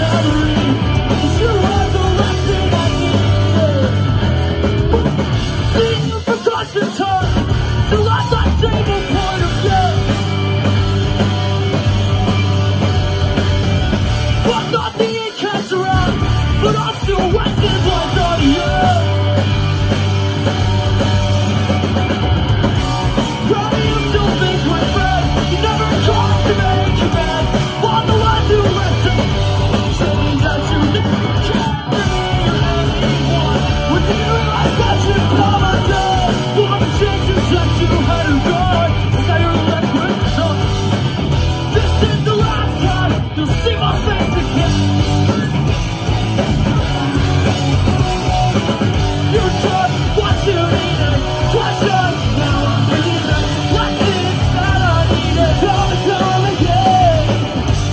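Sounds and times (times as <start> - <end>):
punk rock band playing: 0.0 - 57.9
singer singing and yelling: 0.0 - 57.9.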